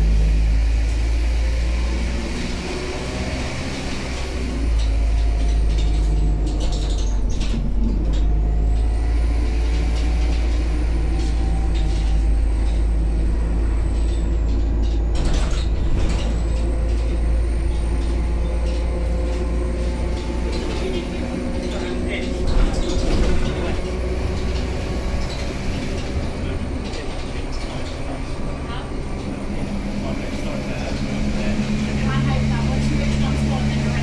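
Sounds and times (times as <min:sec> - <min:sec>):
bus diesel engine rumbling: 0:00.0 - 0:34.0
interior rattles: 0:03.9 - 0:34.0.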